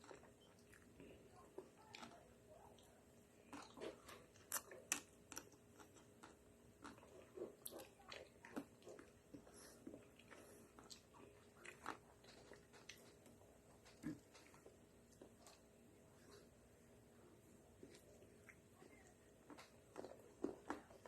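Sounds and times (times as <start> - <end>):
wet chewing: 0.0 - 16.6, 17.7 - 21.0.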